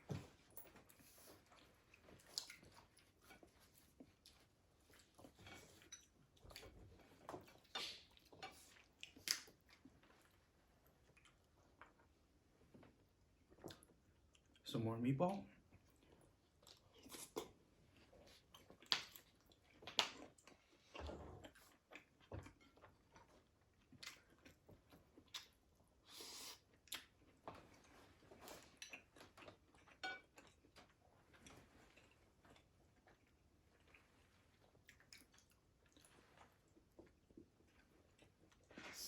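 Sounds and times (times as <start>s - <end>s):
person chewing: 1.4s - 10.4s, 11.0s - 12.1s, 15.8s - 39.0s.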